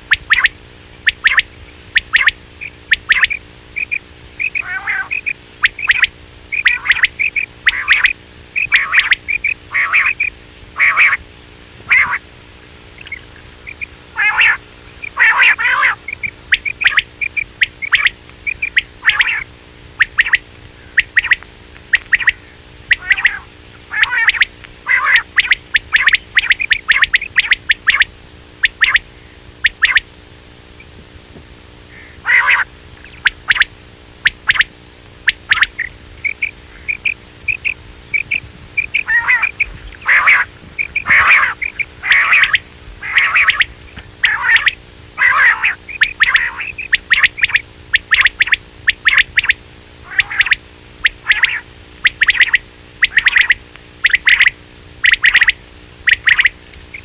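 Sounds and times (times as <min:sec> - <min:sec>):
quail calling: 0:00.0 - 0:30.1, 0:31.9 - 0:57.0
faint steady hum: 0:00.0 - 0:57.0.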